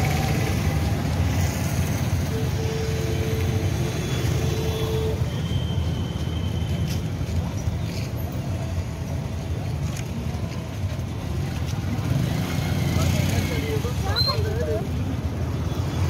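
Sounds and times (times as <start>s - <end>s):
passing motorbikes and cars: 0.0s - 16.0s.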